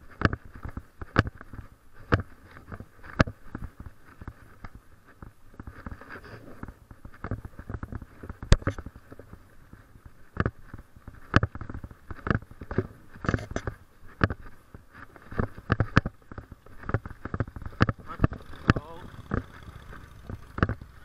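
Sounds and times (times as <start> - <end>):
footsteps: 0.0 - 21.0
leash and camera handling noise: 0.0 - 21.0.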